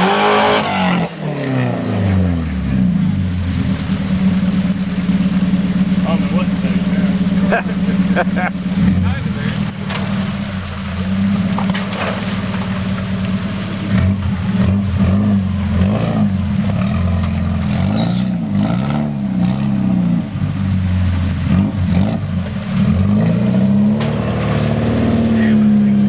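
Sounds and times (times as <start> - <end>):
engine revving up and down: 0.0 - 26.0.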